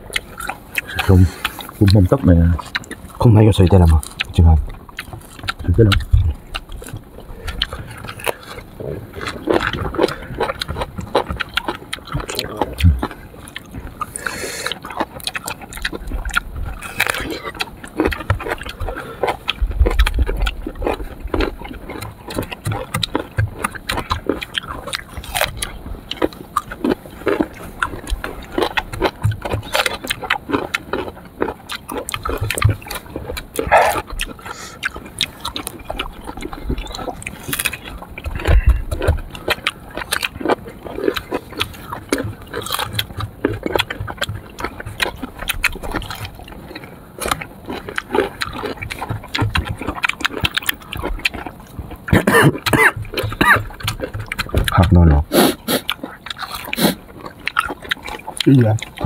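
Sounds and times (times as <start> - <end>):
crunching and chewing fruit: 0.0 - 59.0
wet mouth clicks and smacks: 3.8 - 59.0.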